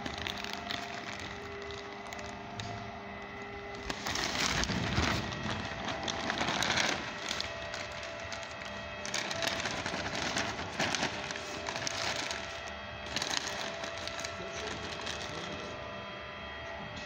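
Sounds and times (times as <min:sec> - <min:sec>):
machine hum with whining tones: 0:00.0 - 0:17.0.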